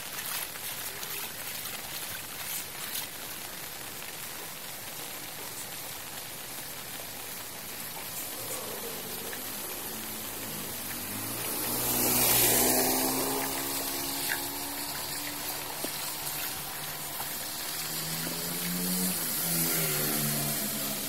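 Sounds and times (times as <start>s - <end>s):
rain hissing on flooded street: 0.0s - 21.0s
water spraying rush: 0.0s - 21.0s.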